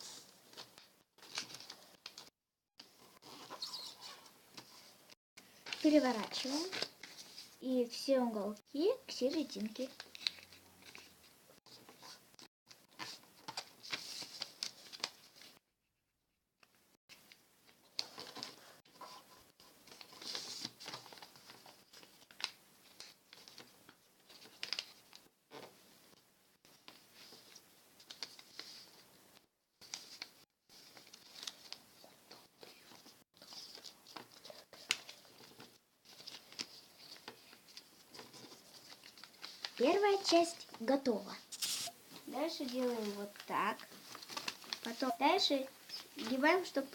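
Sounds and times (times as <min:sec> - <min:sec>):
paper rustling and creasing: 0:00.0 - 0:04.9, 0:05.5 - 0:07.6, 0:09.2 - 0:15.6, 0:17.1 - 0:46.9.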